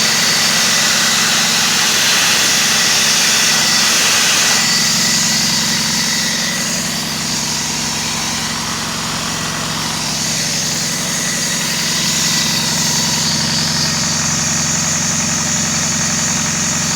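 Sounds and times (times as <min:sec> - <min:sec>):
diesel compressor engine hum: 0:00.0 - 0:16.9.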